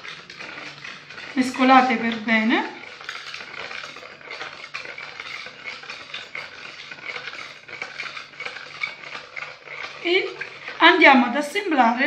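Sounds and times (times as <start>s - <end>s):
spoon stirring syrup in plastic bowl: 0.0s - 12.0s.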